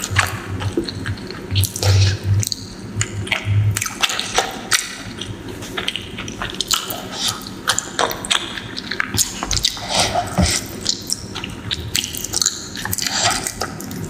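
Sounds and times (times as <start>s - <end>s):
wet chewing with smacking clicks: 0.0s - 14.0s.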